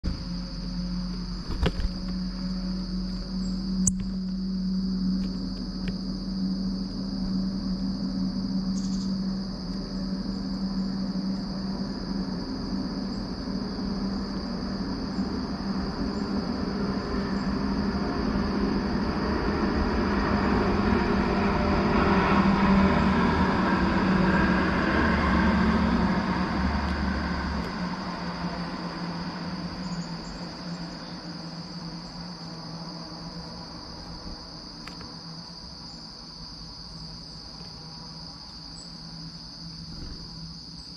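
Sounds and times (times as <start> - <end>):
distant vehicle passing: 0.0 - 36.4
crickets chirring: 0.0 - 40.9.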